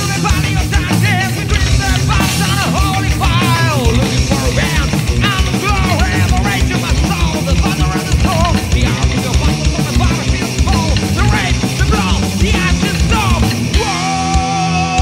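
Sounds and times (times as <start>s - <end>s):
fast driving drum beat: 0.0s - 15.0s
wavering lead guitar line: 0.0s - 15.0s.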